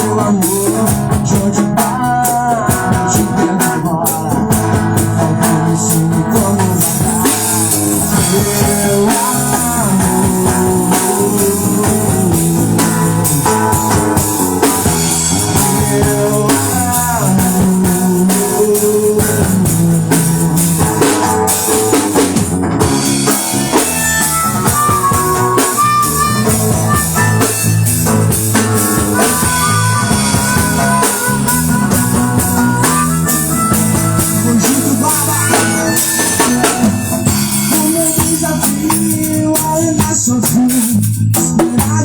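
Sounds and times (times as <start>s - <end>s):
drum rimshots: 0.0s - 42.0s
live band playing reggae groove: 0.0s - 42.0s.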